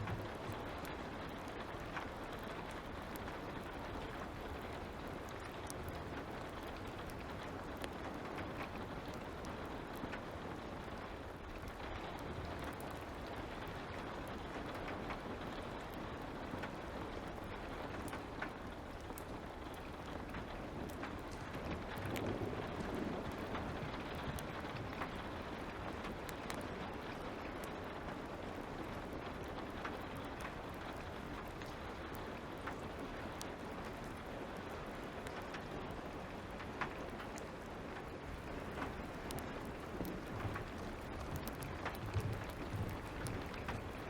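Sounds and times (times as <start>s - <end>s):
light rain falling: 0.0s - 44.0s
wood fire crackling: 0.0s - 44.0s.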